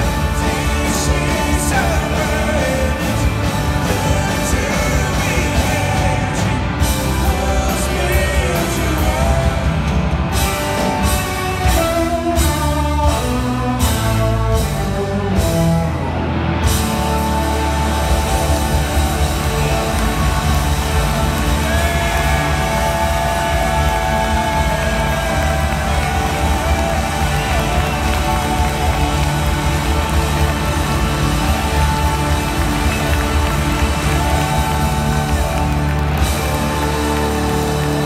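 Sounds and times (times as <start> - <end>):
blues-rock band playing: 0.0 - 38.0.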